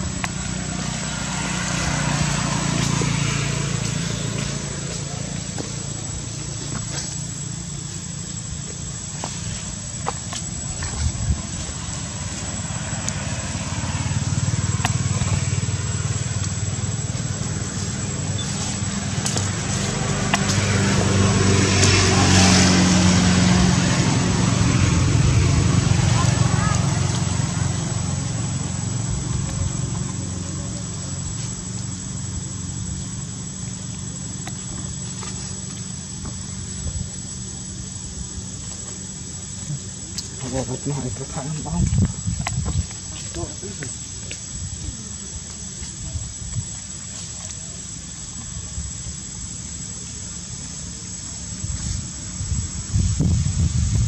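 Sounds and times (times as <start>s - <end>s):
engine running steadily: 0.0s - 54.0s
high steady whine: 0.0s - 54.0s
high-pitched insect drone: 0.0s - 54.0s.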